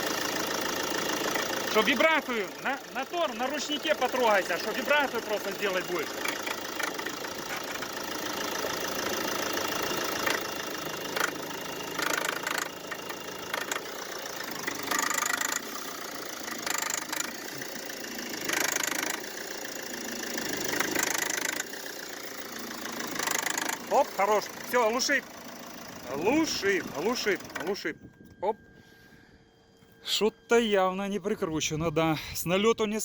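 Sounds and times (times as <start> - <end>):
diesel engine rattling knock: 0.0 - 27.8.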